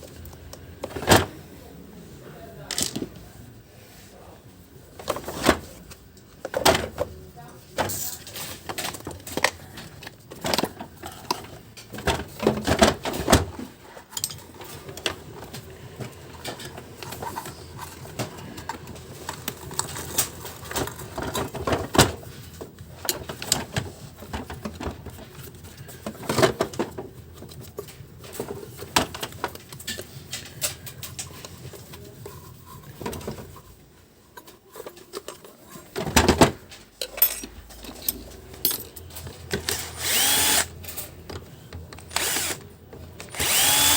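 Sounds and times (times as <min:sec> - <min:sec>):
plastic parts clicking and clattering: 0:02.6 - 0:03.2, 0:05.0 - 0:07.2, 0:07.8 - 0:33.7, 0:34.4 - 0:43.9.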